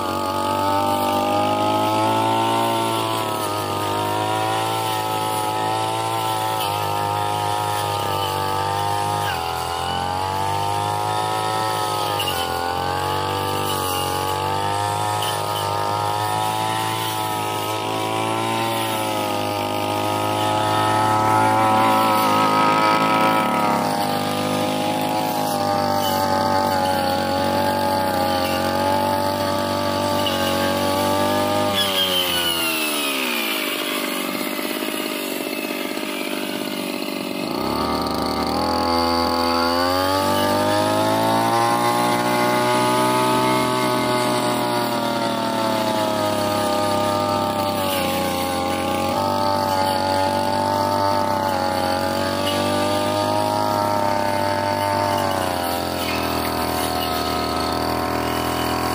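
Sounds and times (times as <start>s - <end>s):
brush cutter engine at high revs: 0.0s - 58.9s
metal blade cutting brush: 0.0s - 58.9s.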